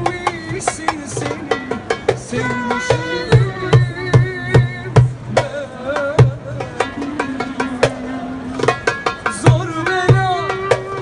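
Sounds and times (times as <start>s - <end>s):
hand drum beating: 0.0s - 11.0s.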